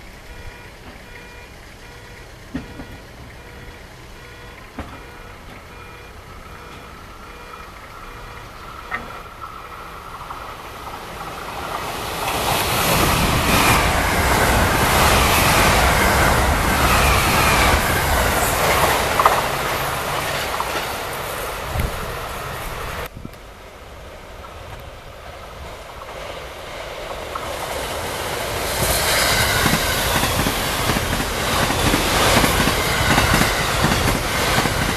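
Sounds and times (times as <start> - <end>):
electric train passing at high speed: 0.0 - 34.9
wheels clicking over rail joints: 0.0 - 34.9.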